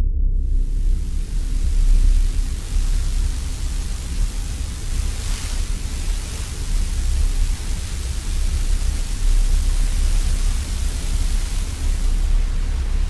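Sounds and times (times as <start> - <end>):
deep fluctuating rumble: 0.0 - 13.0
radio static hiss: 0.5 - 13.0.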